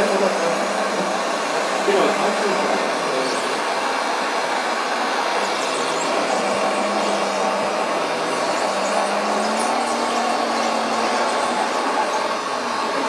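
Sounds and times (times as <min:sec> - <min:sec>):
model truck whirring hiss: 0:00.0 - 0:13.0.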